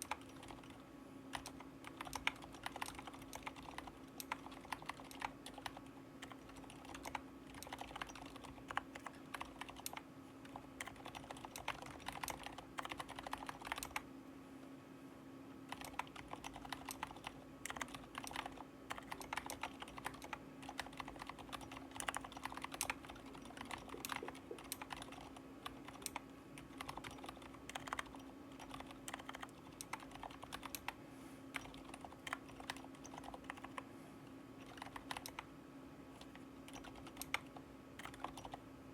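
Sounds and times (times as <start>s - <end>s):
typing on mechanical keyboard: 0.0s - 14.0s, 15.7s - 33.8s, 34.6s - 35.4s, 36.2s - 38.6s.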